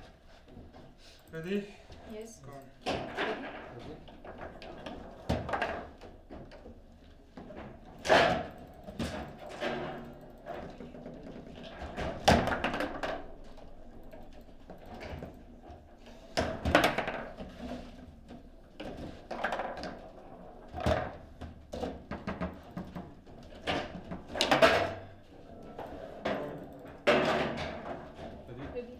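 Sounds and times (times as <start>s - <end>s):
foosball ball knocks and clacks: 2.8s - 28.4s.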